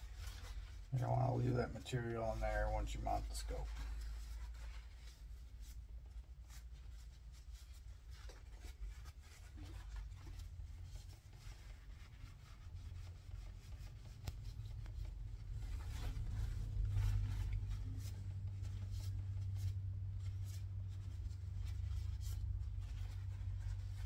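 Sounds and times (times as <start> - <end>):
scratchy rubbing: 0.0 - 24.0
steady low hum: 0.0 - 24.0.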